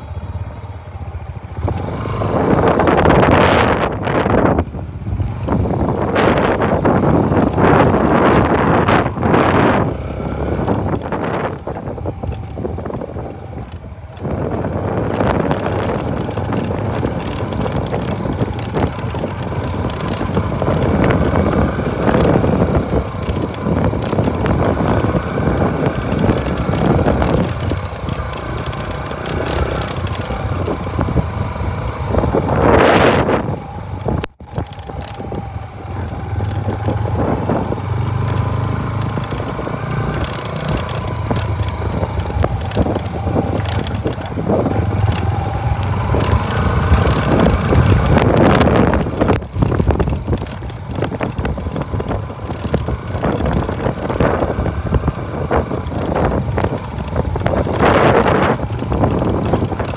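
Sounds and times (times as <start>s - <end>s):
motorcycle on dirt track: 0.0s - 59.9s
wind buffeting microphone: 0.0s - 59.9s.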